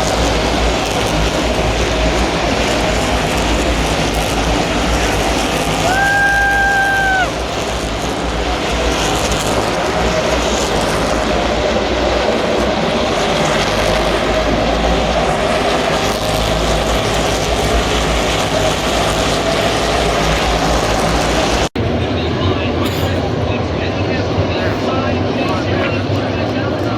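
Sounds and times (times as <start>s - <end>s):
race car engines droning: 0.0s - 26.9s.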